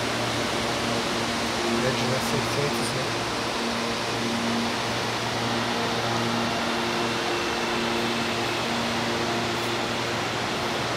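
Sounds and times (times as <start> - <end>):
electric train humming: 0.0 - 10.9.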